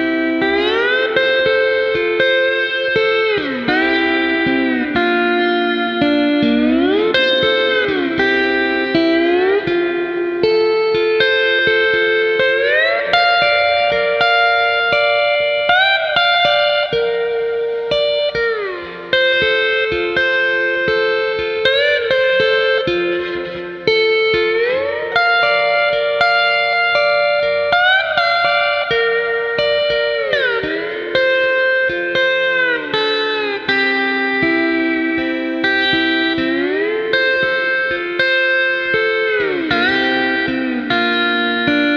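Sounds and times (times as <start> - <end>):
sliding steel guitar chords: 0.0 - 41.9.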